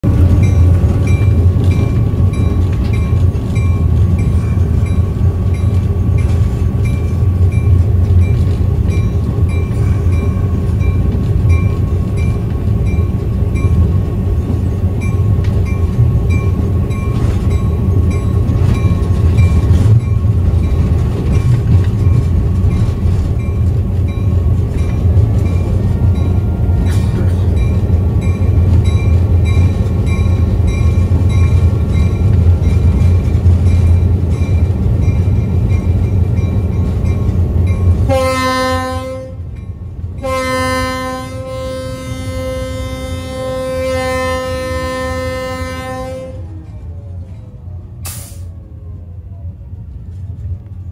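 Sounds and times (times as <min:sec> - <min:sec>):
diesel locomotive engine running: 0:00.0 - 0:50.9.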